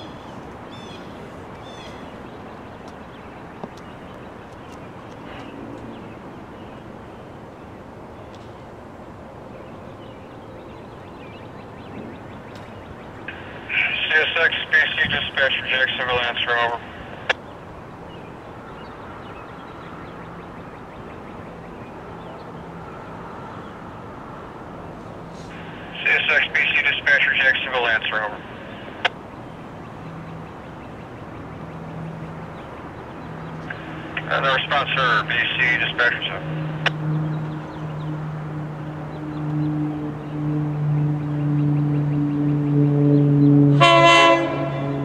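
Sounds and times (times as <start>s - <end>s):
bird calling: 0.0s - 44.6s
low distant hum: 0.0s - 45.0s
outdoor background noise: 0.0s - 45.0s.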